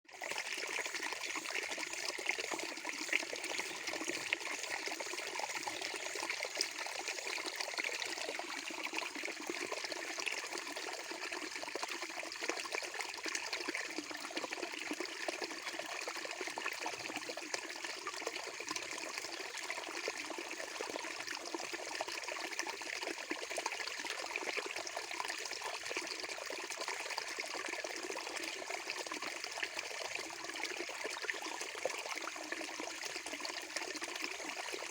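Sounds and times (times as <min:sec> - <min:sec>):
running water trickling and splashing: 0:00.1 - 0:34.9.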